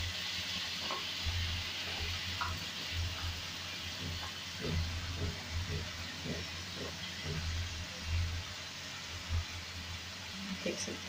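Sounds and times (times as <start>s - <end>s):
vegetables sizzling in hot oil: 0.0s - 11.0s
low hum: 0.9s - 11.0s.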